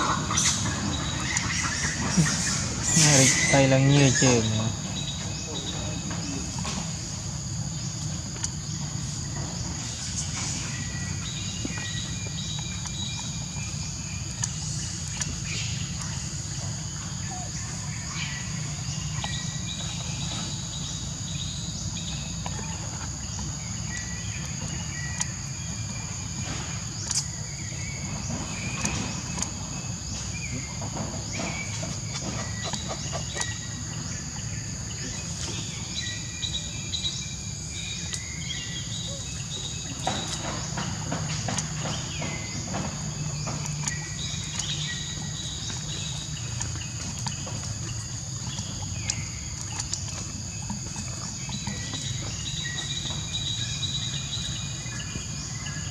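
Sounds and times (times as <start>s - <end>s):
birds chirping: 0.0s - 55.9s
insects droning: 0.0s - 55.9s.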